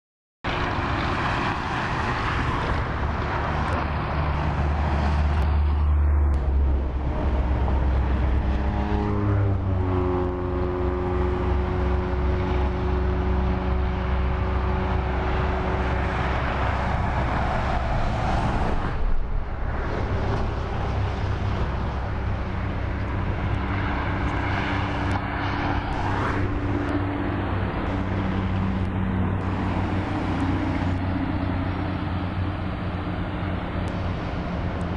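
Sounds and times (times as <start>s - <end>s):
highway traffic rumble: 0.4s - 34.9s
vehicle engine passing: 0.5s - 34.9s.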